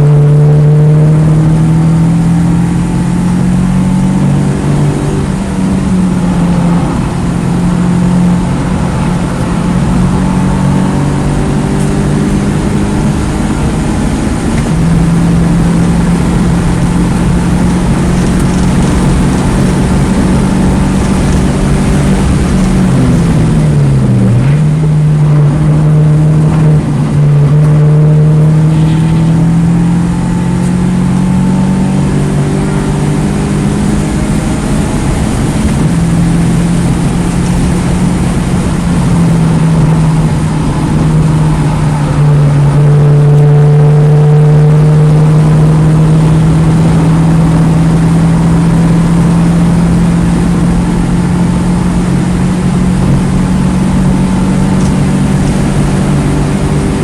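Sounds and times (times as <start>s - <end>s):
car engine running at high revs: 0.0s - 57.0s
loud wind and road noise: 0.0s - 57.0s.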